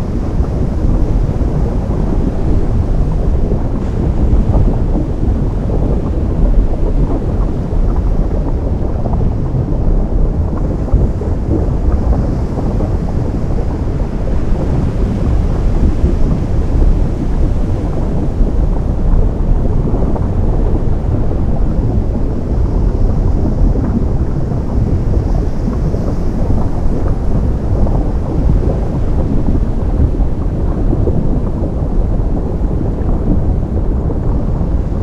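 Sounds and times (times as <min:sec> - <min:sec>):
ocean surf rumbling: 0:00.0 - 0:35.0.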